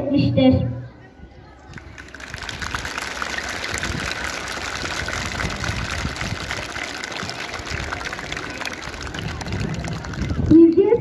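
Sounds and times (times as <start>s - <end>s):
crowd applauding: 1.7s - 11.0s.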